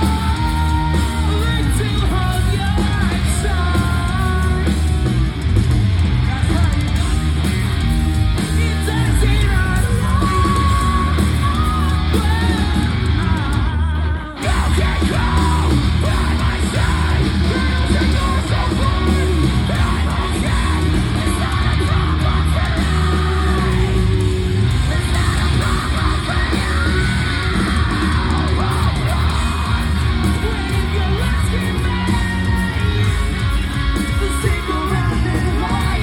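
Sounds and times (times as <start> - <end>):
distorted guitars: 0.0 - 36.0
heavy drums: 0.0 - 36.0
yelled vocals: 0.0 - 36.0.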